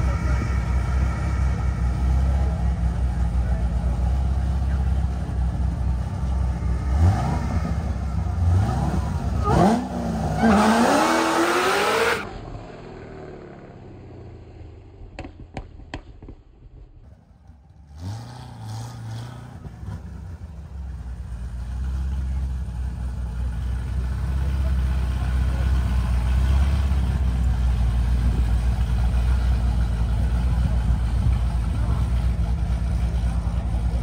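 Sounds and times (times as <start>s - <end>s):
car engines accelerating hard: 0.0s - 13.9s, 17.4s - 34.0s
car engines idling: 0.0s - 15.6s, 17.0s - 34.0s.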